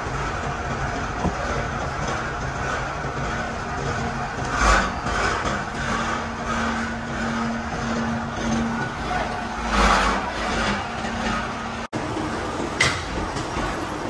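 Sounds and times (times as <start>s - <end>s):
heavy machinery rumbling: 0.0s - 14.0s
low machine hum: 0.0s - 14.0s.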